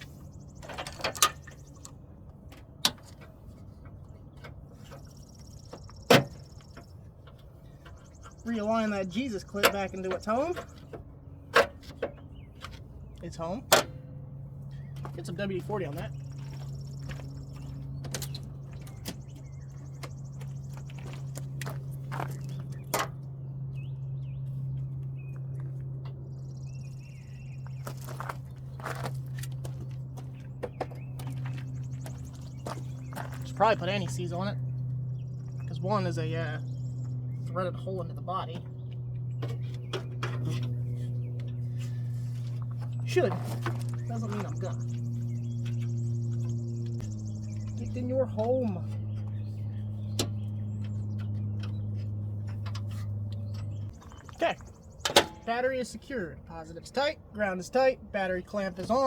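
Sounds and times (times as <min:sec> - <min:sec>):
bird chirping: 0:00.0 - 0:01.9, 0:03.9 - 0:13.7, 0:14.6 - 0:57.0
steady low hum: 0:00.0 - 0:59.0.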